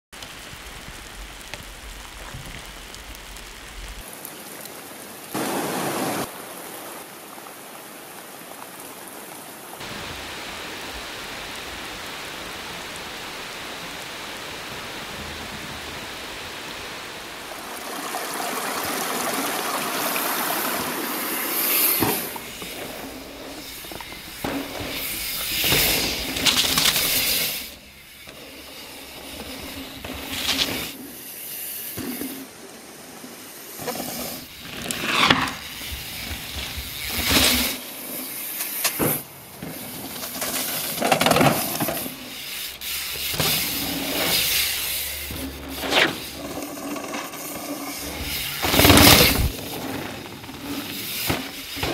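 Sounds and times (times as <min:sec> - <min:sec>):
rain falling on forest: 0:00.1 - 0:43.7.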